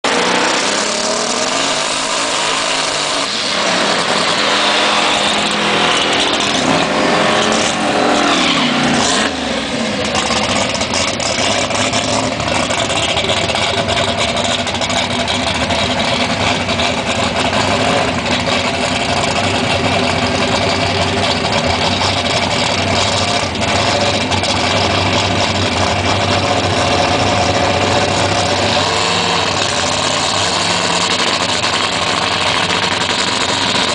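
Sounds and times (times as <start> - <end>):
truck engine revving and idling: 0.0 - 33.9.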